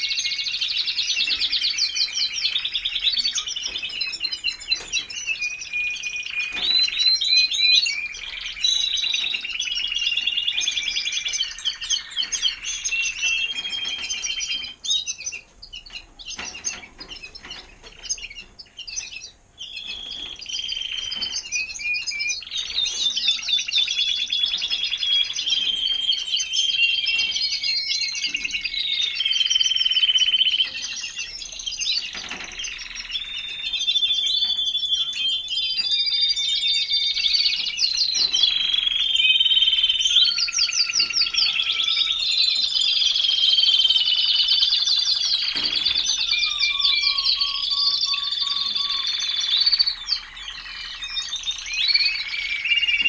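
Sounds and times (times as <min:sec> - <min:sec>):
canaries singing trills: 0:00.0 - 0:53.0.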